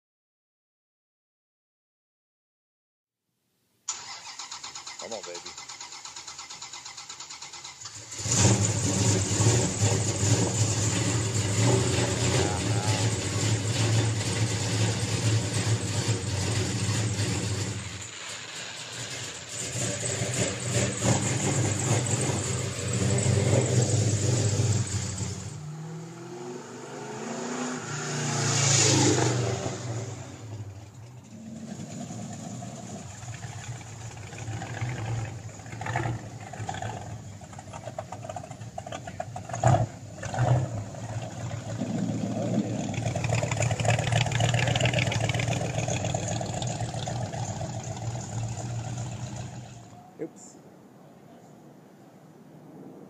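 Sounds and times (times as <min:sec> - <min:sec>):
car engines revving past: 0:06.0 - 0:50.0.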